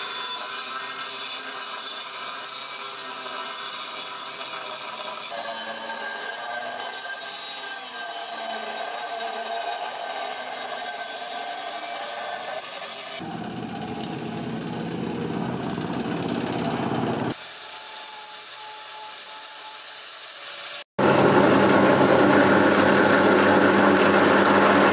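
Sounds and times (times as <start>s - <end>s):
angle grinder grinding metal: 0.0s - 20.9s.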